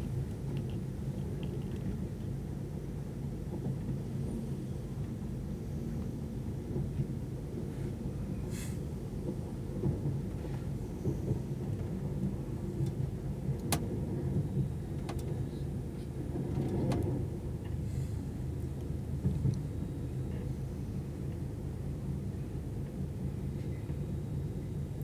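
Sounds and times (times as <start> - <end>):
train rumble inside carriage: 0.0 - 25.0.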